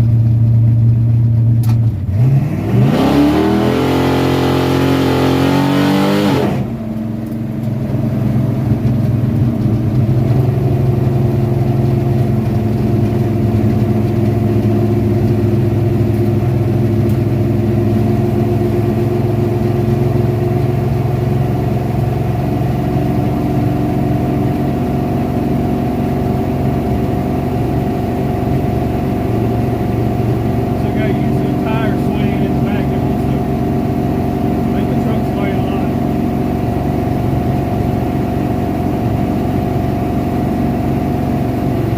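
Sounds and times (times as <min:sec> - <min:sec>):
car engine revving: 0:01.6 - 0:41.9.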